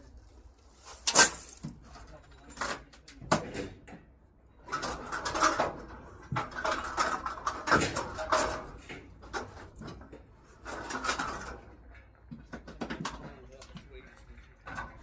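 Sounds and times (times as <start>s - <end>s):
scrap metal clanking and scraping: 0.0s - 4.0s, 4.6s - 13.3s.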